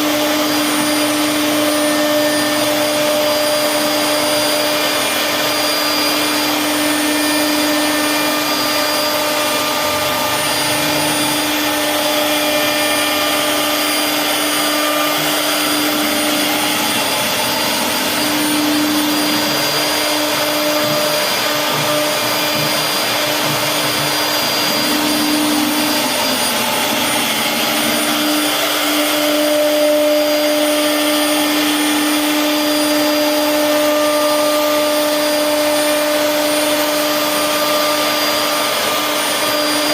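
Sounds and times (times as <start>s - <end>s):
hiss of wood cutting: 0.0s - 39.9s
router spindle whining: 0.0s - 39.9s.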